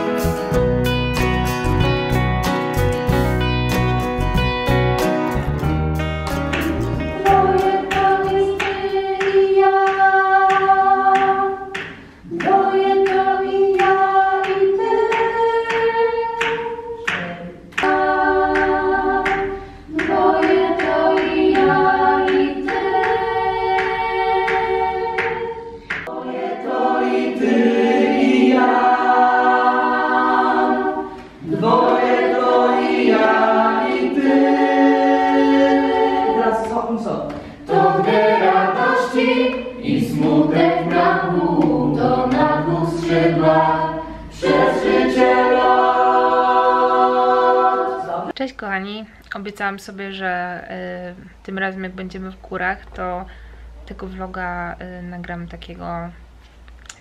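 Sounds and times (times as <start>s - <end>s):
vocal ensemble singing chords: 0.0s - 48.4s.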